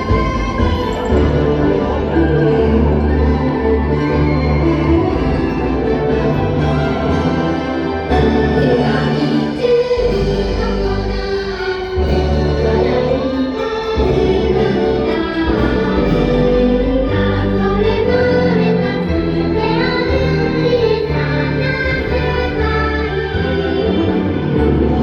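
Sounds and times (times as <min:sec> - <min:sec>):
choir singing: 0:00.0 - 0:25.0
orchestral backing music: 0:00.0 - 0:25.0.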